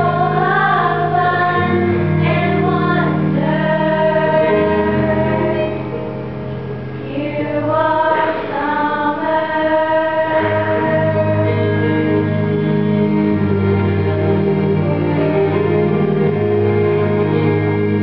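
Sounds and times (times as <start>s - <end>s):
female choir singing gospel: 0.0s - 6.0s, 7.0s - 15.8s.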